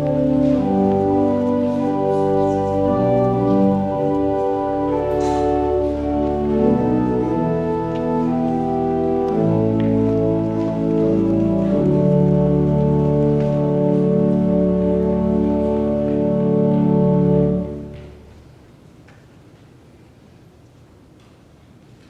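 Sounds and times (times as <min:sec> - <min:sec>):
church organ sustained chords: 0:00.0 - 0:18.5.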